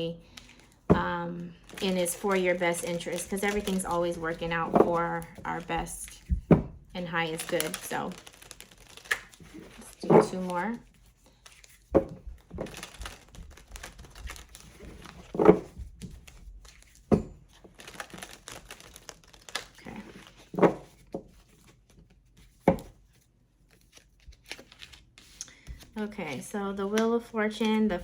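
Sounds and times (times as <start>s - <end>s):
cards shuffling and rustling: 0.3s - 6.6s, 7.2s - 28.0s.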